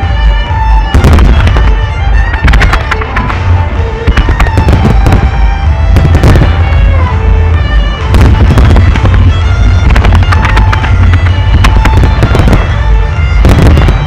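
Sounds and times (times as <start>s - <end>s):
fireworks bursting and crackling: 0.0s - 14.0s
music with long held notes: 0.0s - 14.0s
deep rumble: 0.8s - 14.0s.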